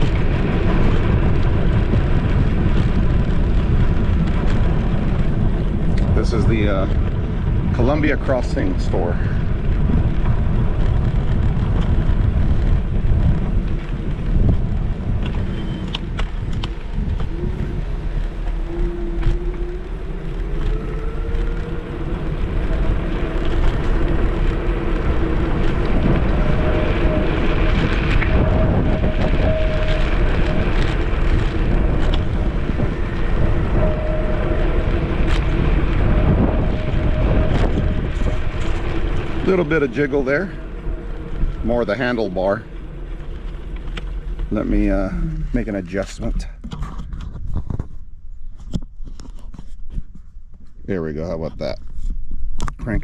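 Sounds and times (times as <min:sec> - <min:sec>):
road rumble: 0:00.0 - 0:53.0
wind buffeting microphone: 0:00.0 - 0:53.0.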